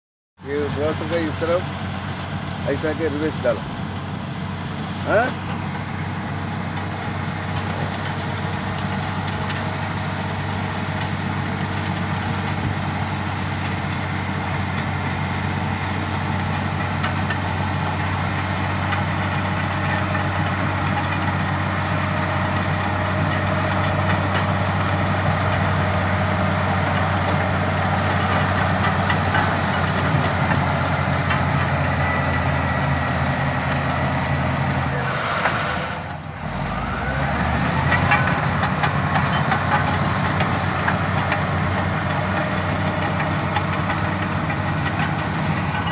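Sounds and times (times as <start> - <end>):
bulldozer diesel engine running: 0.4 - 45.9.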